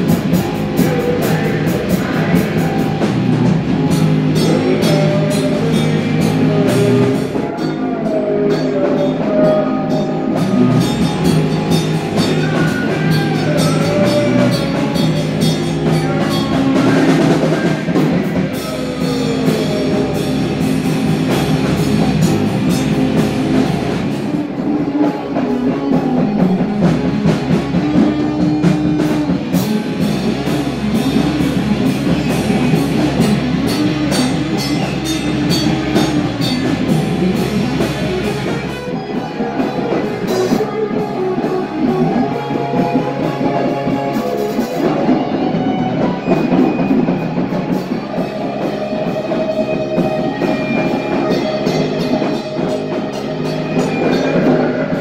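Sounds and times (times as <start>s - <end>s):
bass guitar: 0.0s - 55.0s
drum kit: 0.0s - 55.0s
electric guitar sliding lead line: 0.0s - 55.0s.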